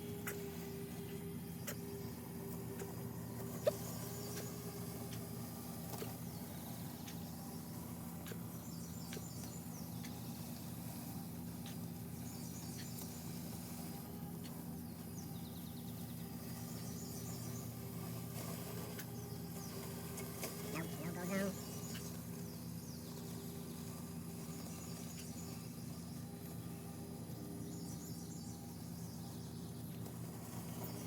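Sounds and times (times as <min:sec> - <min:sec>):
robotic lawn mower humming: 0:00.0 - 0:31.0.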